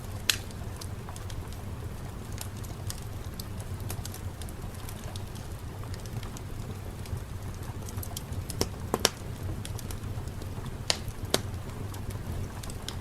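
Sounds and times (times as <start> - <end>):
burning wood popping: 0.0 - 13.0
fireplace crackling: 0.0 - 13.0
low steady rumble: 0.0 - 13.0.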